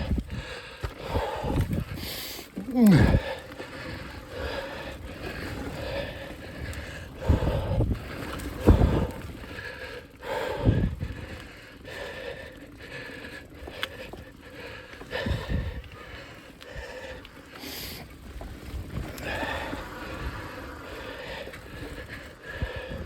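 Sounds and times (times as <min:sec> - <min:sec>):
person breathing hard: 0:00.0 - 0:23.0.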